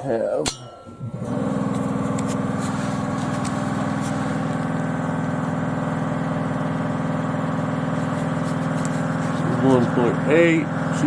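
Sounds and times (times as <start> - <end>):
motor droning: 1.0 - 11.0.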